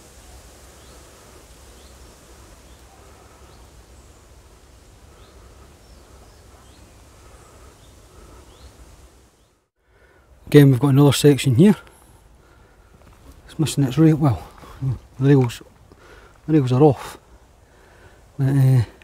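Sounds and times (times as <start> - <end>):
low rumble and hiss: 0.0 - 19.0
small birds chirping: 0.3 - 19.0.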